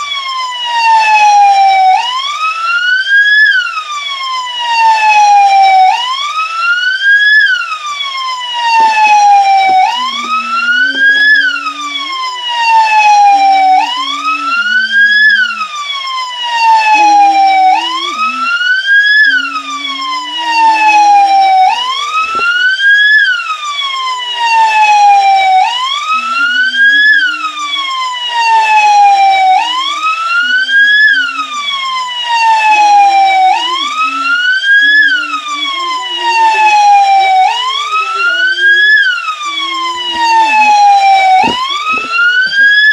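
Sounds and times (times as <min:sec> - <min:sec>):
police siren slow wail: 0:00.0 - 0:42.9.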